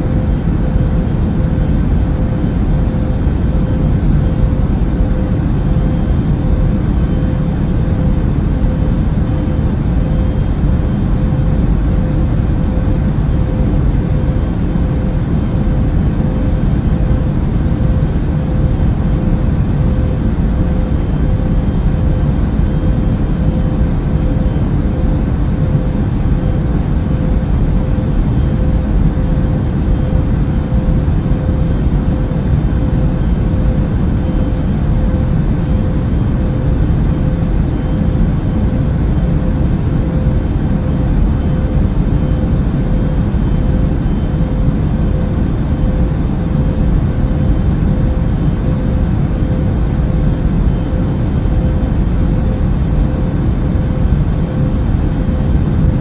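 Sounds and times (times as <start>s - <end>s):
airplane cabin engine rumble: 0.0s - 56.0s
faint steady hum: 0.0s - 56.0s.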